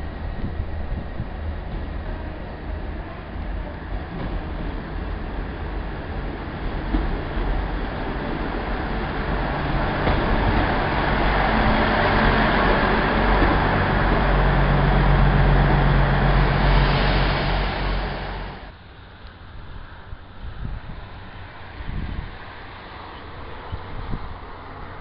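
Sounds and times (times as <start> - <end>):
diesel train passing: 0.0 - 25.0
outdoor background: 0.0 - 25.0.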